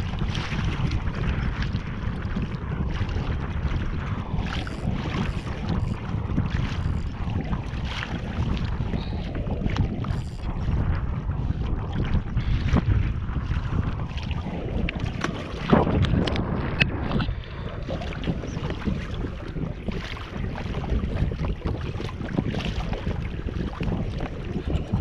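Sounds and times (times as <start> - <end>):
water against hull: 0.0 - 25.0
wind buffeting microphone: 0.0 - 25.0.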